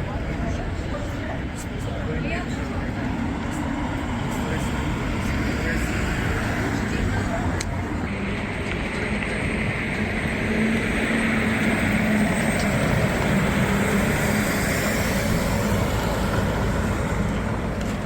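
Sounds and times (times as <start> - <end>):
vehicle passing on wet street: 3.3 - 18.0.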